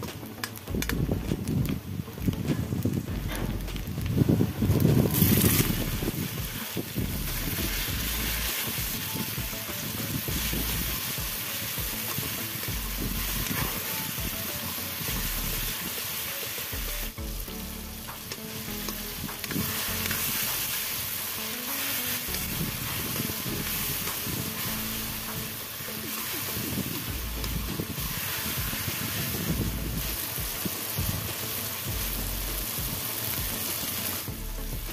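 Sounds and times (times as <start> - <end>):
food sizzling in hot oil: 0.0 - 34.9.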